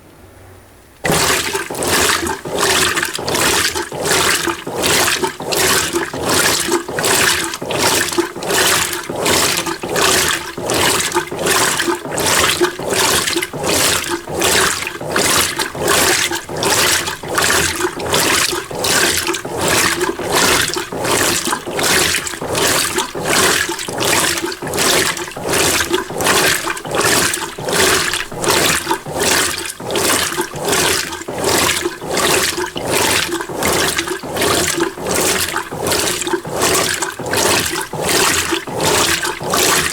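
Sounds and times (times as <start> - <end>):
washing machine water sloshing: 1.0 - 39.9.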